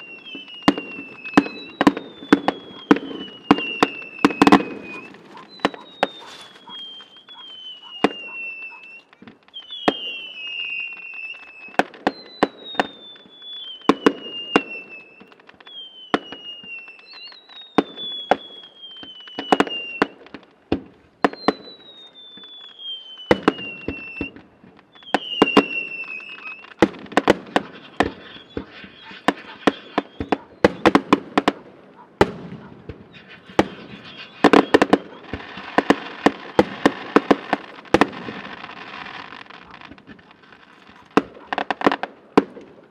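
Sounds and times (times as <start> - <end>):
firework bangs: 0.0 - 42.9
firework crackling: 0.0 - 42.9
whistling firework shells: 0.0 - 42.9.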